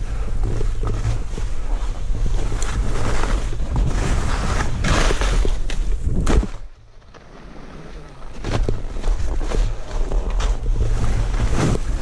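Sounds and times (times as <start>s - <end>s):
skis scraping over snow: 0.0s - 12.0s.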